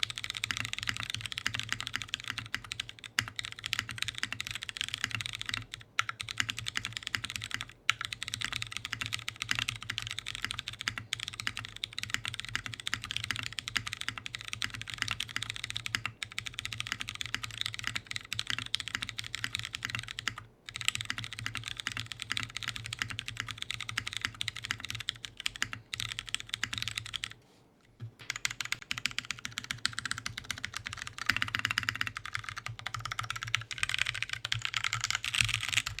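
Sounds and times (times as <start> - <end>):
fast mechanical keyboard typing: 0.0 - 27.4, 28.0 - 36.0.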